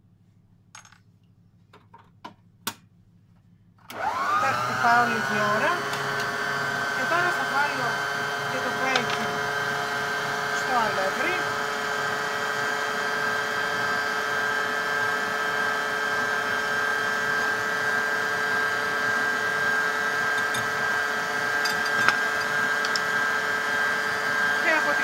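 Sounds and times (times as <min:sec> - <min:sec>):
stand mixer motor whine: 0:03.9 - 0:25.0.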